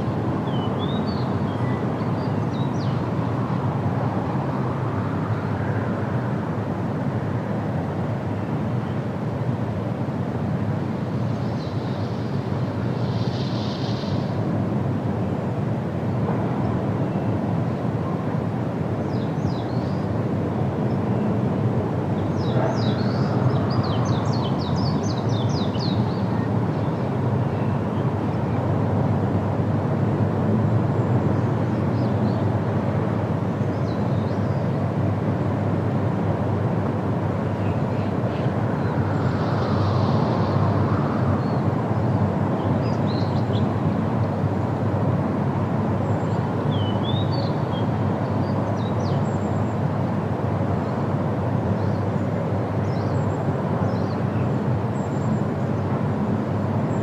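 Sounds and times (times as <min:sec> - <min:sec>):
wind through trees: 0:00.0 - 0:57.0.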